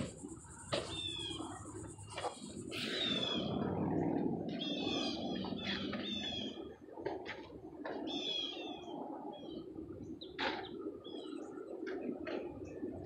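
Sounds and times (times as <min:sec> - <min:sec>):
songbird singing: 0:00.0 - 0:06.9, 0:07.9 - 0:12.0.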